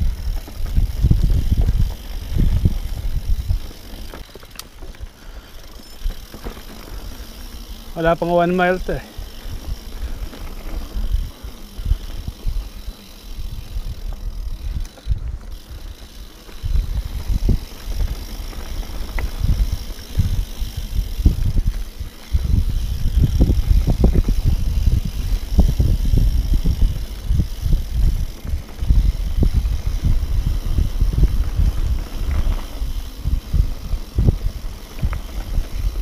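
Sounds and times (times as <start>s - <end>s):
bike clicking and rattling: 0.0s - 36.0s
bike tyres rumbling: 0.0s - 36.0s.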